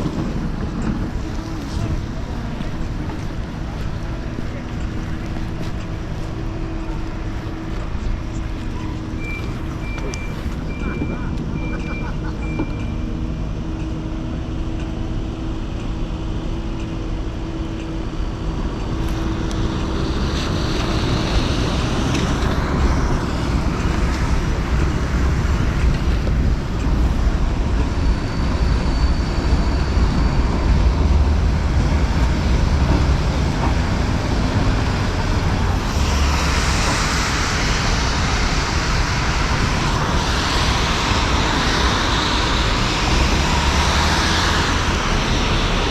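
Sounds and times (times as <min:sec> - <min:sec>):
traffic rumble: 0:00.0 - 0:45.9
vehicles passing: 0:00.0 - 0:45.9.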